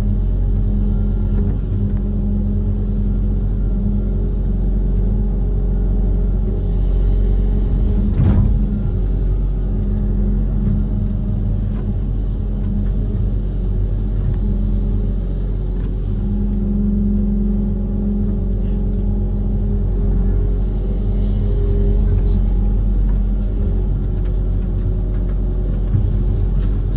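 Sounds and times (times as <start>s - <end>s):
excavator diesel engine rumbling: 0.0s - 26.9s.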